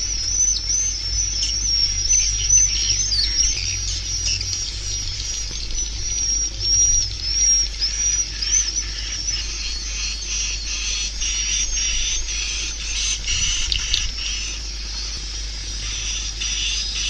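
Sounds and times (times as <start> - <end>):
swiftlets twittering: 0.0 - 17.0.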